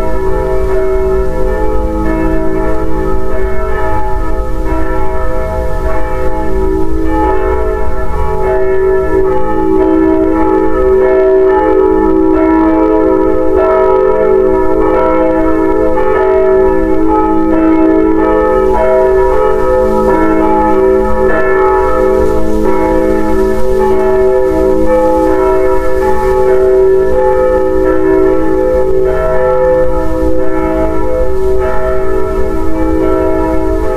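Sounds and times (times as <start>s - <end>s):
bells ringing: 0.0s - 33.9s.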